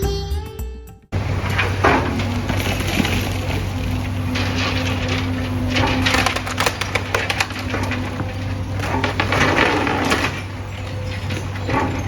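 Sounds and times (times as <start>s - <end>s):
wood cracking and splintering: 1.2s - 12.0s.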